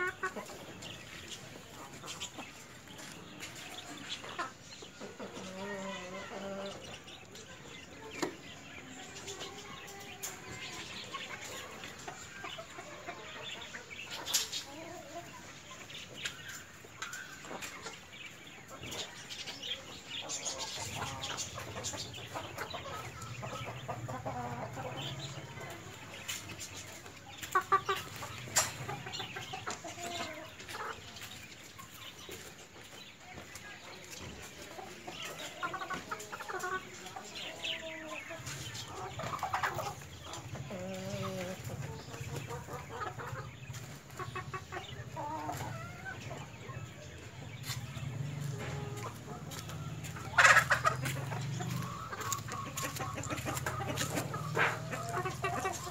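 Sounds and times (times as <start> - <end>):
chickens clucking softly: 0.0 - 55.9.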